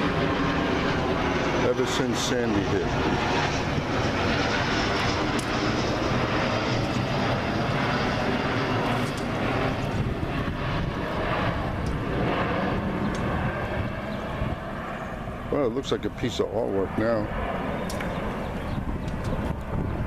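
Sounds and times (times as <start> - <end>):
large engine droning: 0.0 - 20.0.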